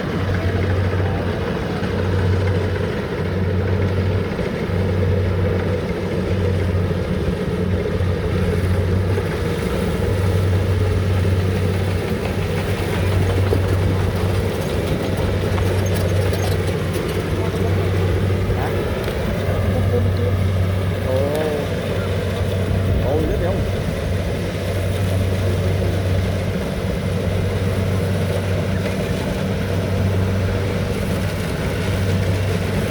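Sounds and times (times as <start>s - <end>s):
combine harvester engine running: 0.0s - 32.9s.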